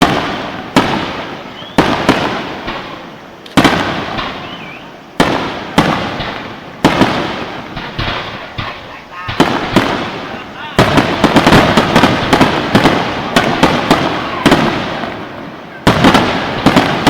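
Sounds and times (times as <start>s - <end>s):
fireworks bangs with rumbling echo: 0.0s - 17.0s.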